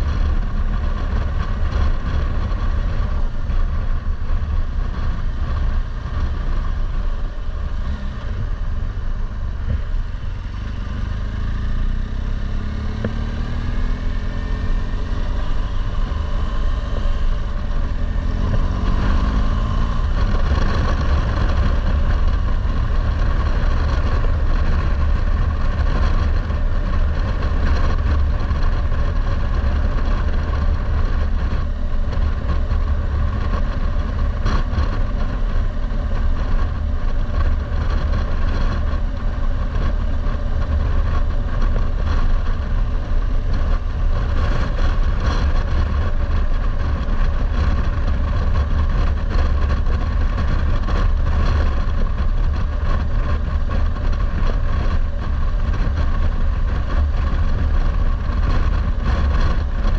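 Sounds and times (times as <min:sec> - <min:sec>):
motorcycle engine humming: 0:00.0 - 0:59.9
wind rumble on microphone: 0:00.0 - 0:59.9.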